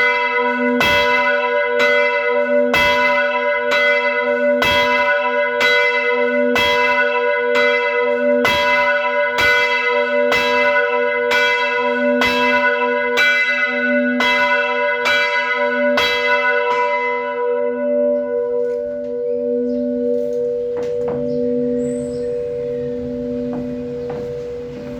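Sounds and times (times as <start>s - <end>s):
church bell ringing: 0.0s - 24.9s.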